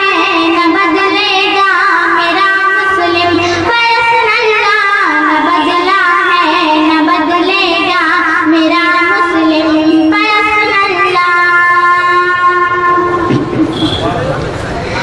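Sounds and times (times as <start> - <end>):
high-pitched young voice singing: 0.0 - 13.3.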